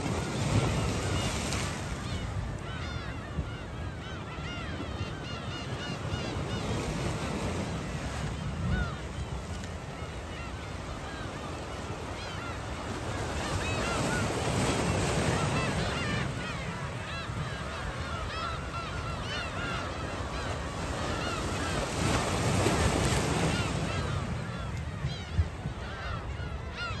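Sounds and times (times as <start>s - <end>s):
gulls calling: 0.0s - 27.0s
wind and surf rumble: 0.0s - 27.0s.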